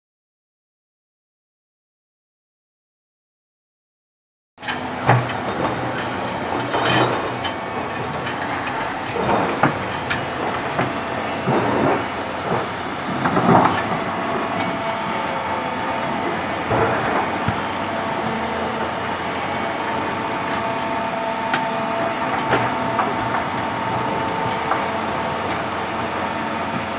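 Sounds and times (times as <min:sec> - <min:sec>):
steady machine hum: 0:04.6 - 0:26.9.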